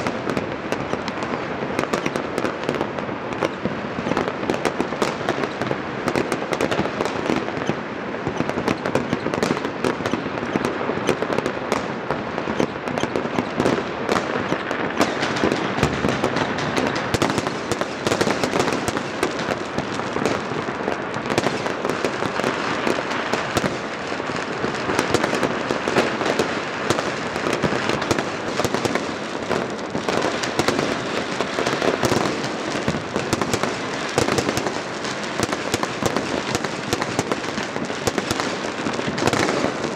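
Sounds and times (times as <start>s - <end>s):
fireworks and firecrackers bangs: 0.0s - 39.9s.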